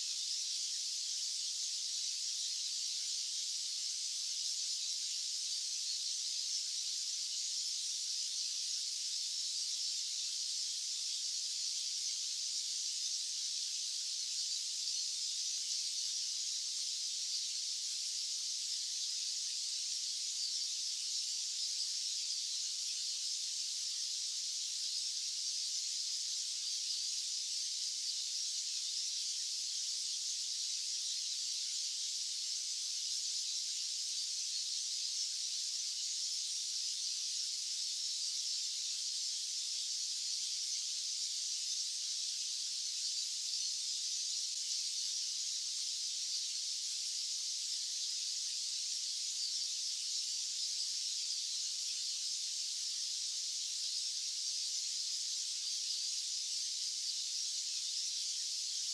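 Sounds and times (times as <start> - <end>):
high-pitched white noise hiss: 0.0 - 58.9.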